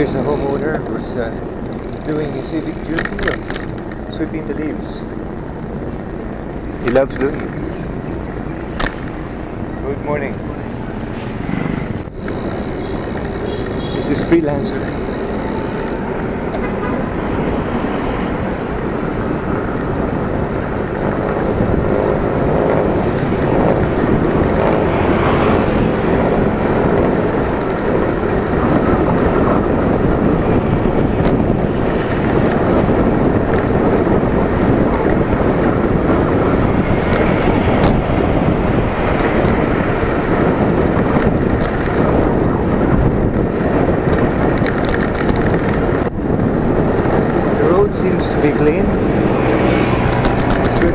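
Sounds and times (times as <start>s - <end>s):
road and traffic noise: 0.0s - 50.9s
wind rushing over microphone: 0.0s - 50.9s.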